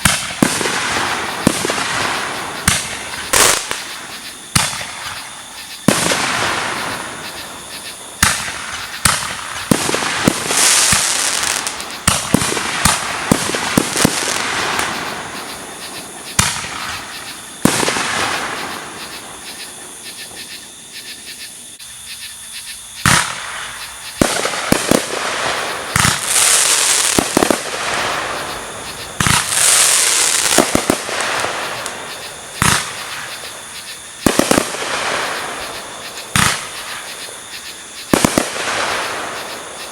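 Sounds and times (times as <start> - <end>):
fireworks bangs: 0.0 - 19.5, 23.0 - 39.9
fireworks crackling hiss: 0.0 - 21.7, 22.8 - 39.9.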